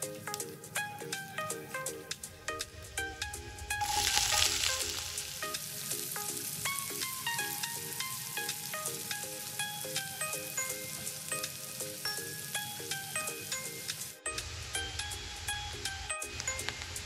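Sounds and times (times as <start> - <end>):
light background music: 0.0 - 17.0
onion sizzling in hot oil: 2.5 - 17.0.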